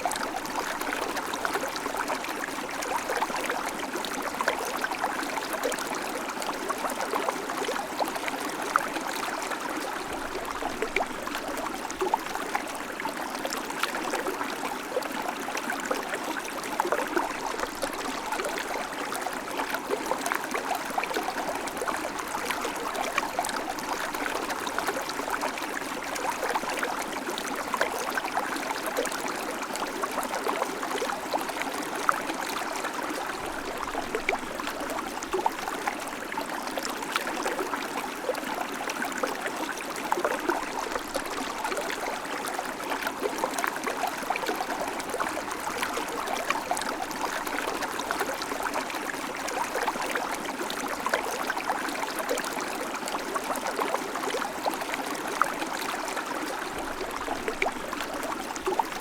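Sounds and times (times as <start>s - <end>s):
river water babbling: 0.0s - 59.0s.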